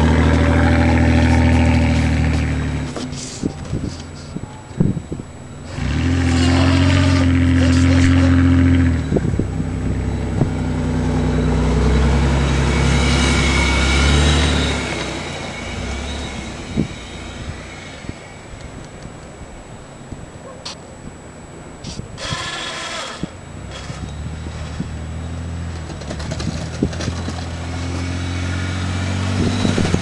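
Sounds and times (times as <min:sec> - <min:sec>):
car engine under load: 0:00.0 - 0:30.0.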